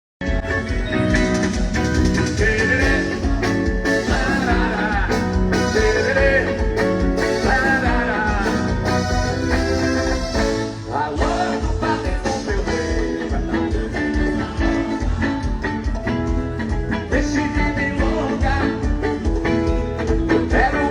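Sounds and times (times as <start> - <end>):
band music with singer: 0.2 - 20.9
steady bass beat: 1.2 - 19.2.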